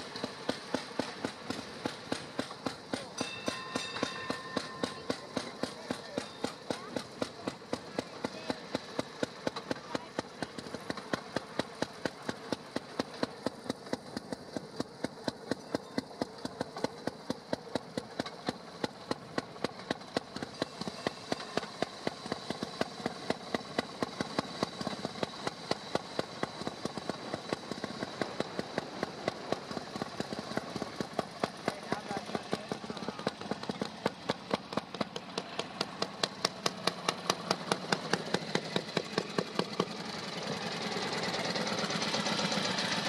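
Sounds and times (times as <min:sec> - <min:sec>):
track speeder engine running: 0:00.0 - 0:43.0.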